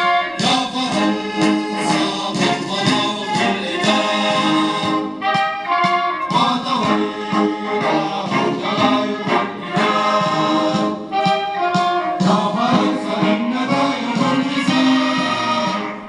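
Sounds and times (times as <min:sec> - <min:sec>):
group of voices singing: 0:00.0 - 0:05.4, 0:06.1 - 0:16.0
instrumental accompaniment: 0:00.0 - 0:16.0.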